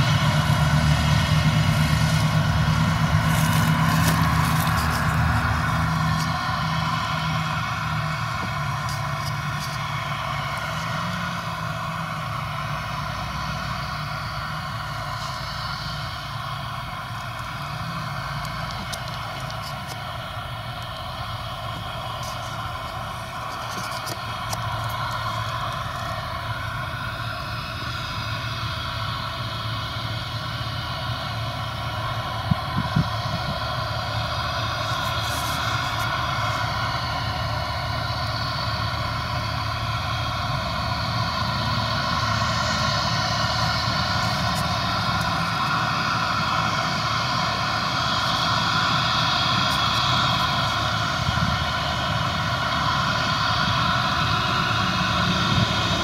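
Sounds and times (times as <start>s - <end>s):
grain auger droning: 0.0s - 56.0s.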